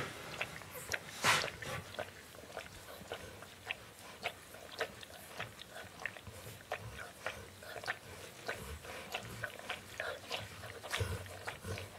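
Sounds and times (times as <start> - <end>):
puppies smacking and grunting: 0.0 - 11.9
rustle: 0.0 - 11.9.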